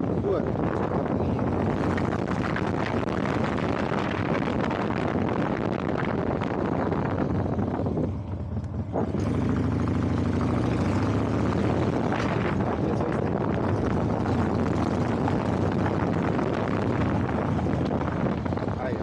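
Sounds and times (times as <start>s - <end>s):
road and wind noise: 0.0s - 19.0s
vehicle engine running: 0.0s - 19.0s.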